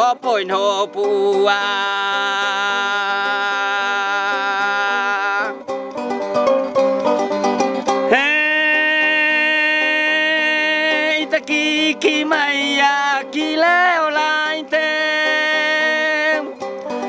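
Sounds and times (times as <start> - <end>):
man singing long held notes: 0.0 - 5.6, 8.1 - 16.6
plucked tube zither: 0.0 - 17.0.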